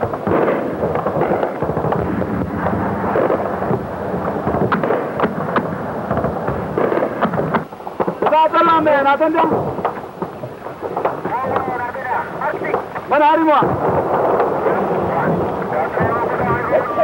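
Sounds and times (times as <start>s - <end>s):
gunshots and blasts: 0.0s - 17.0s
steady noisy din: 0.0s - 17.0s.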